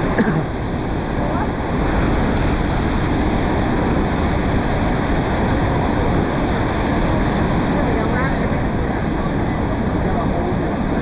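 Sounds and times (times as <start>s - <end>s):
rushing water: 0.0s - 11.0s
rushing wind: 0.0s - 11.0s.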